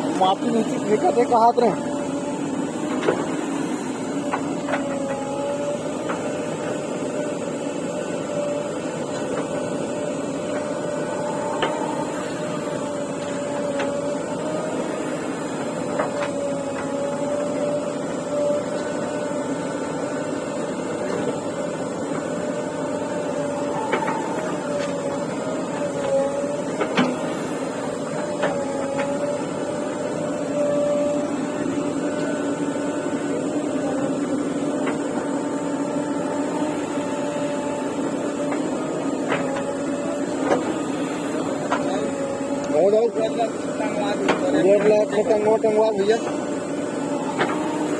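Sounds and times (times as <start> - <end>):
machine whine: 0.0 - 47.9.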